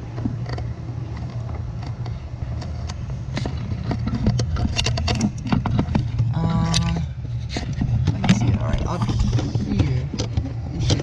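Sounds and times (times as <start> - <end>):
clicks knocks and rattles: 0.0 - 11.0
steady low hum: 0.0 - 11.0.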